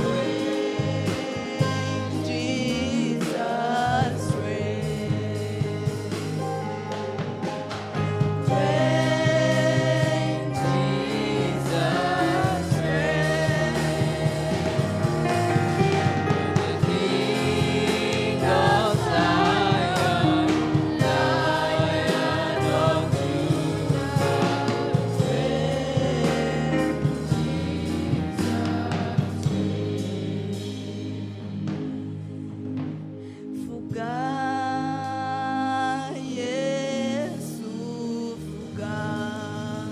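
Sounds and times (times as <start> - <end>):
instrumental backing with beat: 0.0 - 34.3
choir singing gospel: 0.0 - 39.9.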